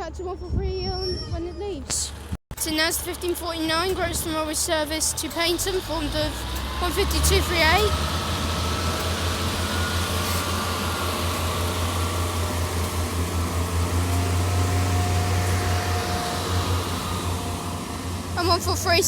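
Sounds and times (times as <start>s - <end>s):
diesel train engines throbbing: 0.0s - 19.0s.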